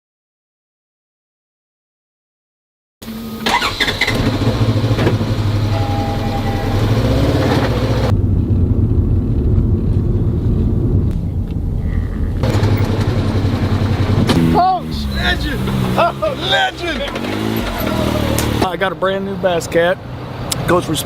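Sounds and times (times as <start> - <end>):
engine droning: 3.0 - 20.8.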